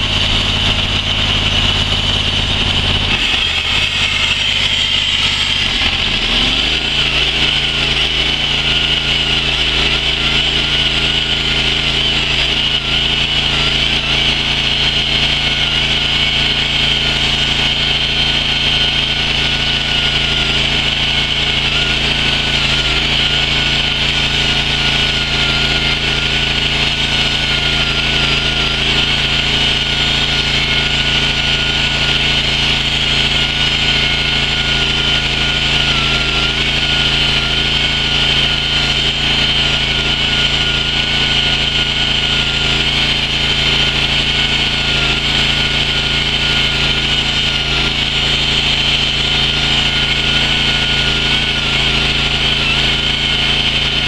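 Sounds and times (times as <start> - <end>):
chainsaw cutting stone: 0.0 - 54.0.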